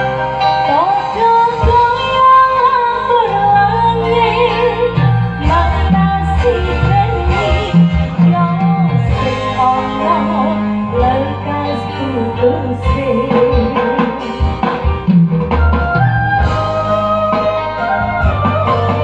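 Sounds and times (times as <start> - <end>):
song with singing and guitar: 0.0 - 19.0
pounding bass line: 1.6 - 19.0.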